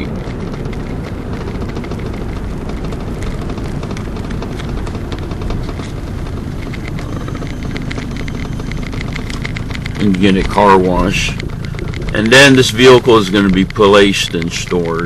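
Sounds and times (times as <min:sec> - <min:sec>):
diesel car engine running: 0:00.0 - 0:15.0
tyre and road rumble: 0:00.0 - 0:15.0.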